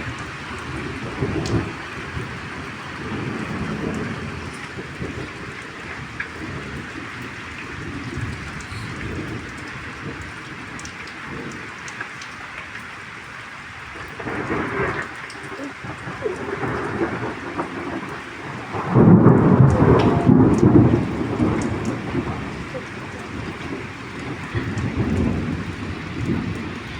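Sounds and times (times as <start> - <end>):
thunder rumbling: 0.0 - 10.3, 13.9 - 26.9
steady rain falling: 0.0 - 26.9.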